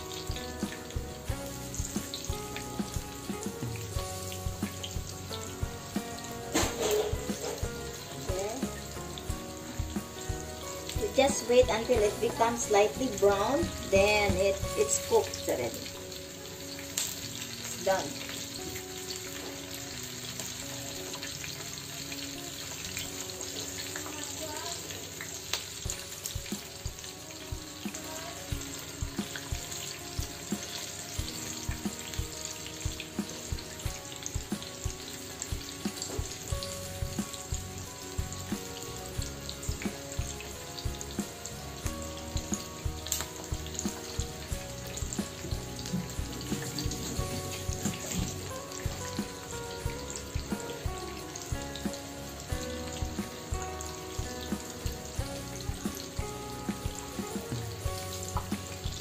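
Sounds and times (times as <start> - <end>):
deep-frying sizzle with pops: 0.0 - 59.0.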